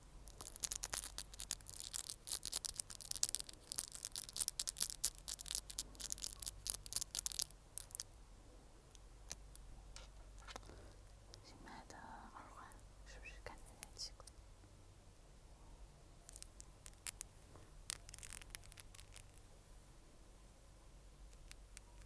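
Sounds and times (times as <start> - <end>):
low hiss: 0.0 - 22.0.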